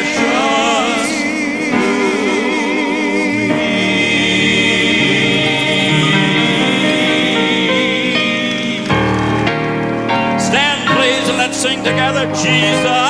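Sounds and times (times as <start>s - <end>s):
gospel singing: 0.0s - 13.0s.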